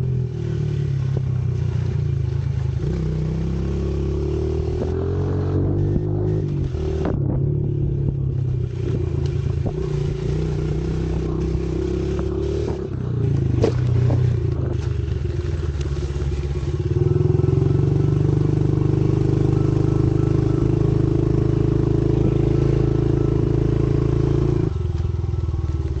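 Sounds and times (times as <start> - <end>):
pit bike engine running: 0.0 - 26.0.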